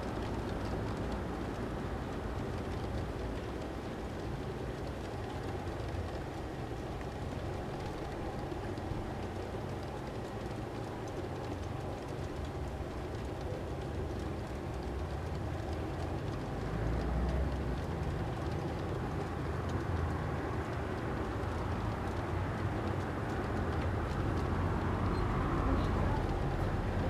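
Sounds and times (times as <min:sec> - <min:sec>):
wheels clicking on track: 0:00.0 - 0:27.0.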